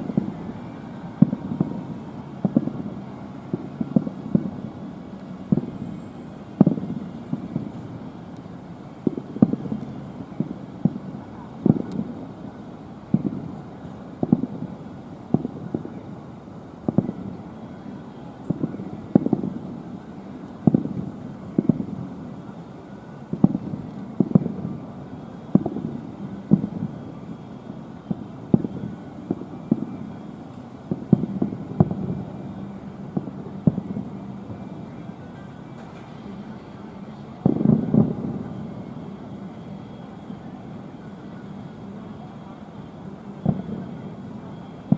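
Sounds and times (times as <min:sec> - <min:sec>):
fireworks booming: 0:00.0 - 0:08.1, 0:08.9 - 0:16.2, 0:16.8 - 0:22.4, 0:23.1 - 0:44.9.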